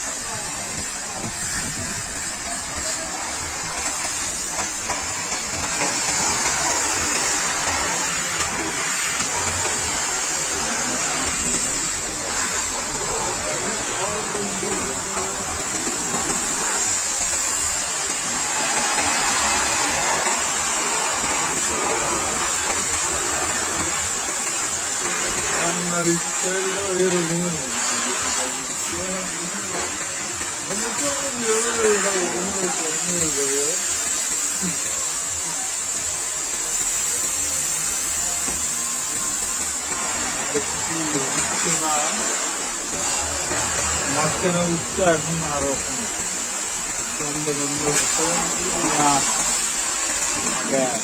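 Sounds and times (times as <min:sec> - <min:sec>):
pressure washer spraying: 0:00.0 - 0:51.0.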